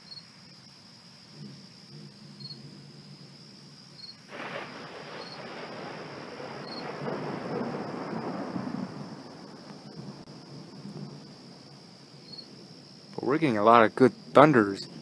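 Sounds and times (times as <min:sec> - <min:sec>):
crickets chirping: 0:00.0 - 0:15.0
thunder rumbling: 0:01.3 - 0:15.0.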